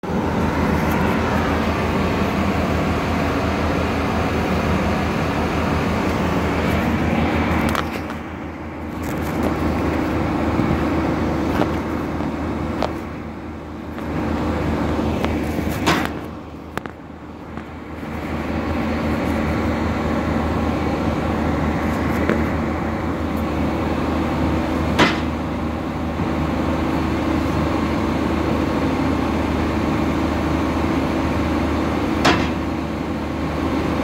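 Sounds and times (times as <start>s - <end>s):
heavy machinery humming: 0.0s - 34.0s.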